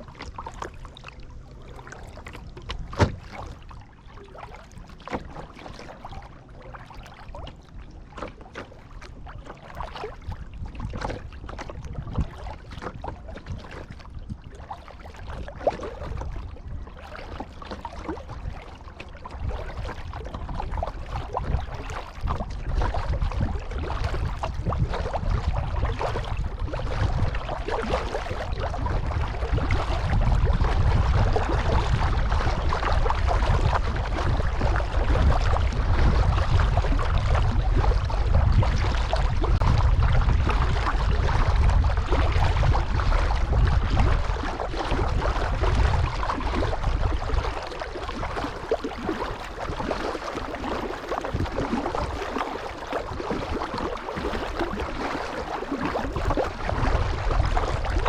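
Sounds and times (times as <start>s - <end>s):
water splashing around paddle: 0.0s - 58.0s
wind rumble on microphone: 0.0s - 58.0s.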